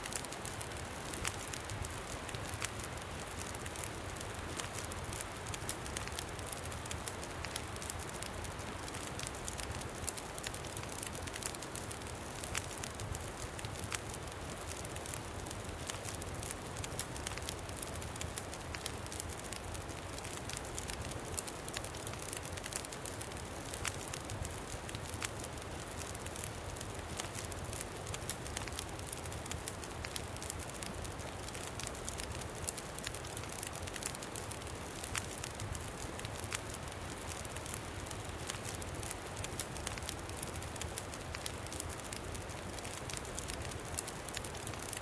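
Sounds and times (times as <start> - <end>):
campfire crackling: 0.0 - 45.0.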